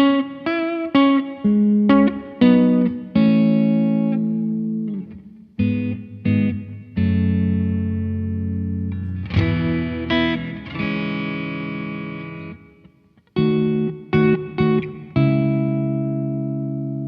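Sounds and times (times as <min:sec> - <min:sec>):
electric guitar chords: 0:00.0 - 0:17.0.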